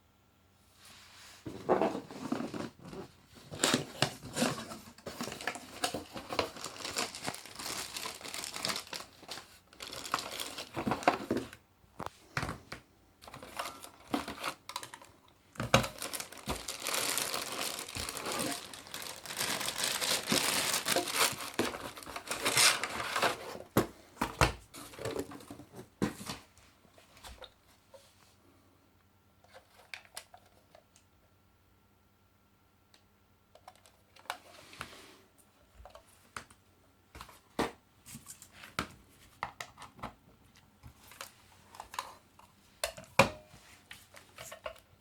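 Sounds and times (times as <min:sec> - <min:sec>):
crinkling and rustling: 0:00.8 - 0:28.4, 0:29.4 - 0:31.1, 0:33.5 - 0:45.0.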